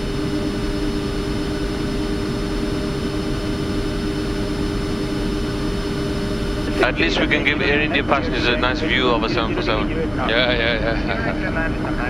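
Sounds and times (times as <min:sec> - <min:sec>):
jet engines running while taxiing: 0:00.0 - 0:12.0.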